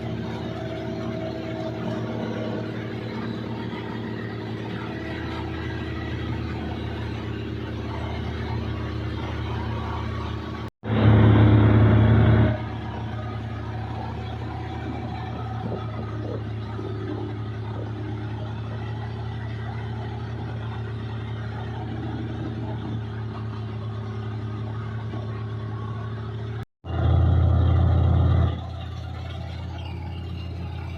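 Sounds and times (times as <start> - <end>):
combine harvester engine humming: 0.0 - 30.9.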